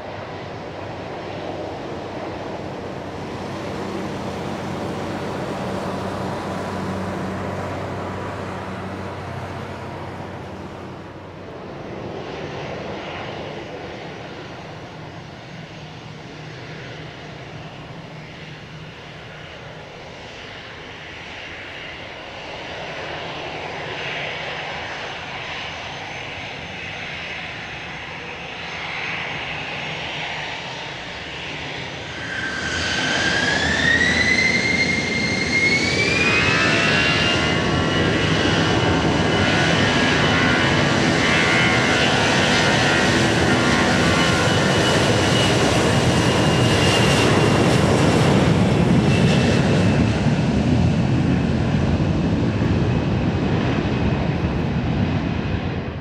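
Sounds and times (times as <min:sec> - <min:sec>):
airliner engines spooling up: 0:00.0 - 0:56.0.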